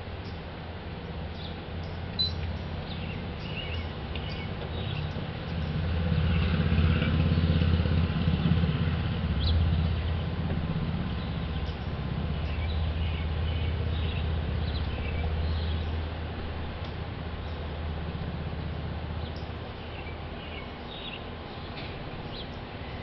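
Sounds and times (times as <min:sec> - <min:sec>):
vehicle engine rumbling low: 0:00.0 - 0:23.0.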